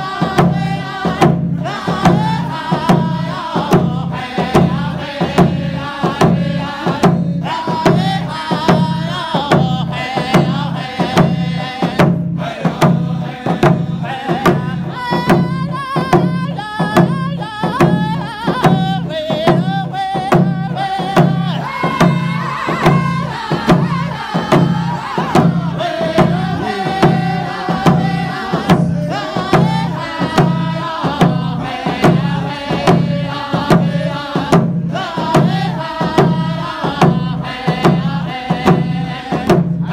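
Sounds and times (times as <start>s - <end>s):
frame drum beating: 0.0s - 39.9s
men singing in unison: 0.0s - 39.9s.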